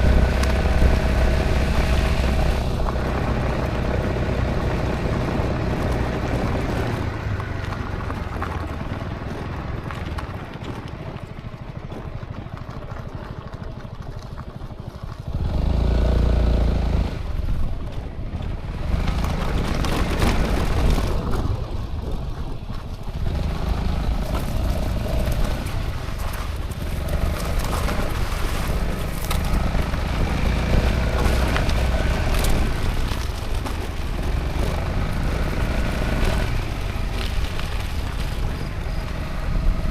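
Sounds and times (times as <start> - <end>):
road and wind noise: 0.0 - 39.9
scooter engine running: 0.0 - 39.9.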